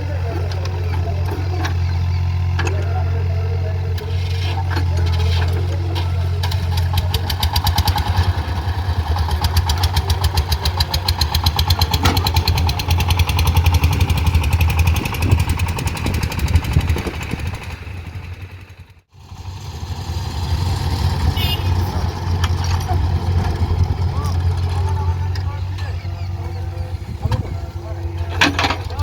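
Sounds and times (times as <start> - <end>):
diesel engine pulsing hum: 0.0 - 29.0.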